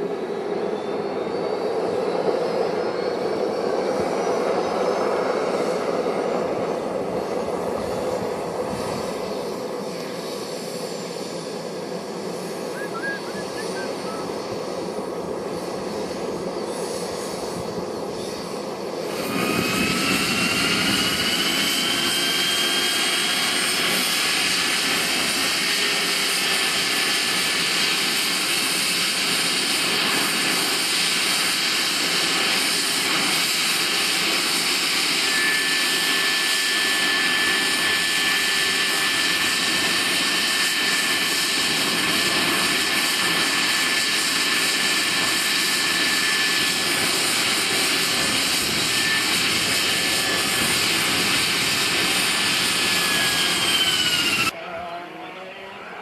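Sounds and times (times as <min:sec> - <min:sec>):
high turbine whine: 0:00.0 - 0:56.0
model helicopter engine and rotor: 0:00.0 - 0:56.0.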